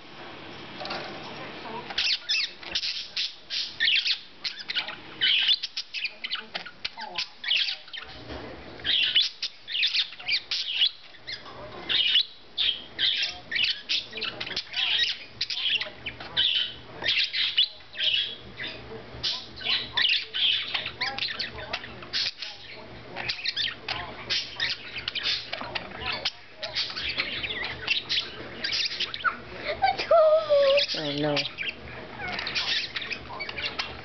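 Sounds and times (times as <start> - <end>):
budgerigars chattering: 1.8 - 8.2, 8.8 - 29.5, 30.8 - 34.0.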